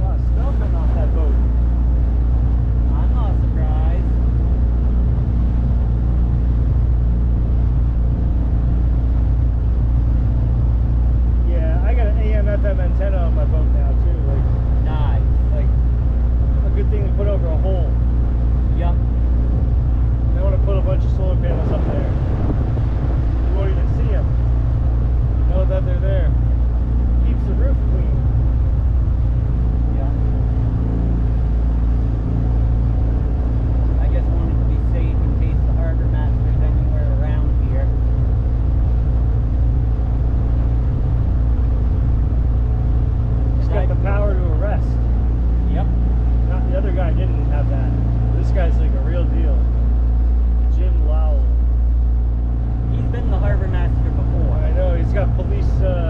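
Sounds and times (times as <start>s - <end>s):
outboard motor low drone: 0.0s - 56.0s.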